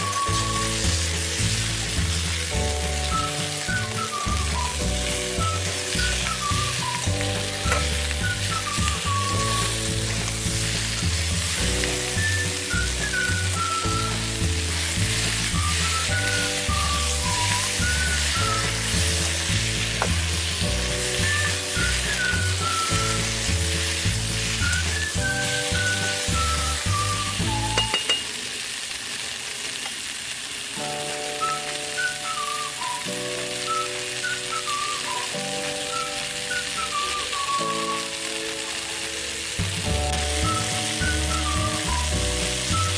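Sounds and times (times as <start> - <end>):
background music: 0.0 - 28.1, 30.8 - 42.9
vegetables sizzling in hot oil: 0.0 - 42.9.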